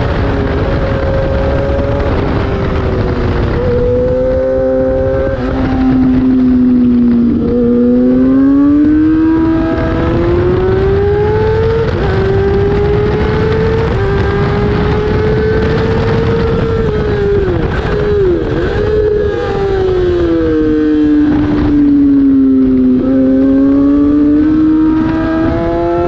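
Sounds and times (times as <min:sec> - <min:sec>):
race motorcycle engine revving: 0:00.0 - 0:26.0.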